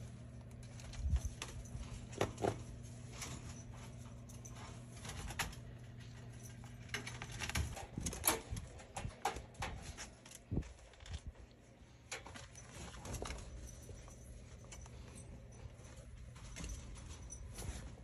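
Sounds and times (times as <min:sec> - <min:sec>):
low steady hum: 0:00.0 - 0:18.0
clicks and rattles of wire mesh: 0:00.3 - 0:18.0.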